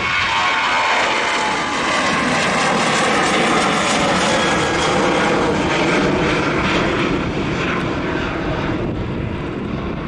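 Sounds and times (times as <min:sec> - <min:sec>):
jet engines at climb thrust: 0:00.0 - 0:10.0.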